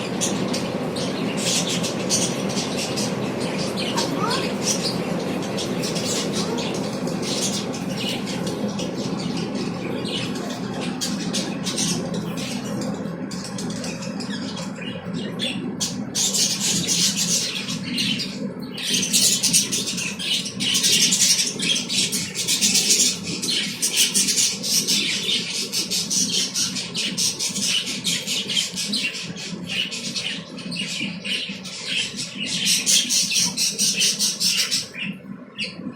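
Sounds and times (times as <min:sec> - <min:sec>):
birds chattering and squawking: 0:00.0 - 0:35.9
steady low hum: 0:00.0 - 0:35.9.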